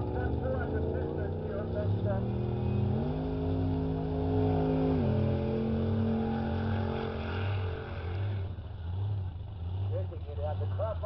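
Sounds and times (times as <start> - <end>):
engine revving high: 0.0 - 9.1.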